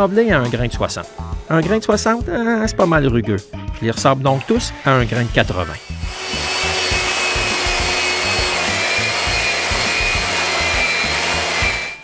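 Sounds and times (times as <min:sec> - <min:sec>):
orbital sander running: 0:00.0 - 0:02.3, 0:04.3 - 0:12.0.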